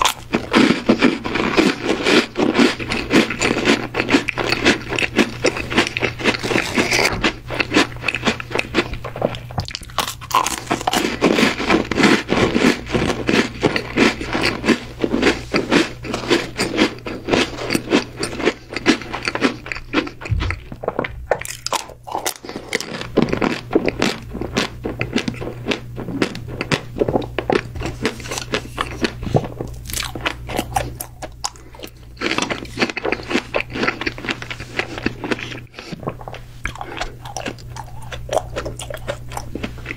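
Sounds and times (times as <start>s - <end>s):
chewing crunchy chocolate sweets: 0.0s - 39.9s.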